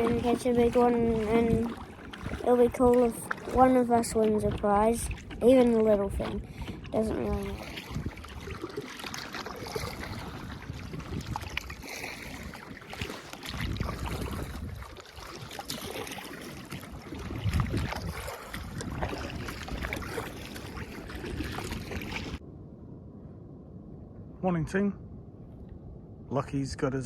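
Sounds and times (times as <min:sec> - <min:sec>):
water splashing around kayak: 0:00.0 - 0:22.4
wind buffeting microphone: 0:00.0 - 0:27.0.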